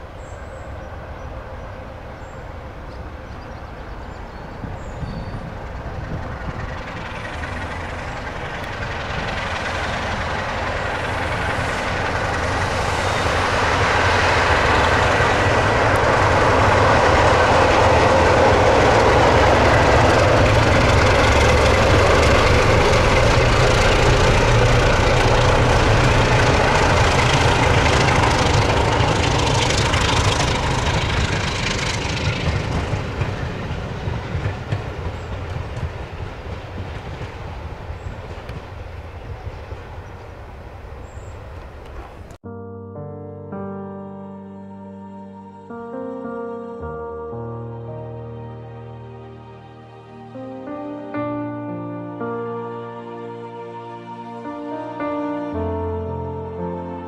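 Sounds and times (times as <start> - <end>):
train rumbling past: 0.0 - 42.4, 43.5 - 57.0.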